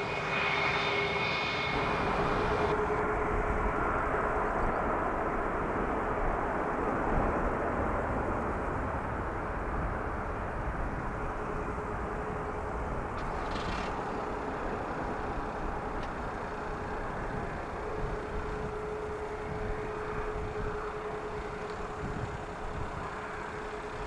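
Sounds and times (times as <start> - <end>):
jet airliner engines running: 0.0 - 24.0.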